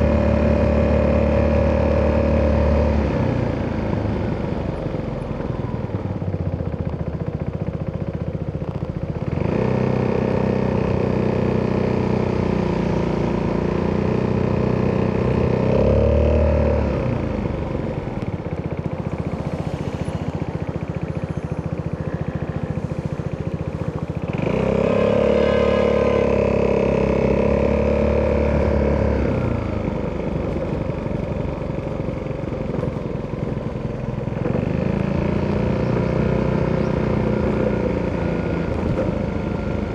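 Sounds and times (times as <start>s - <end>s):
scooter engine: 0.0s - 39.9s.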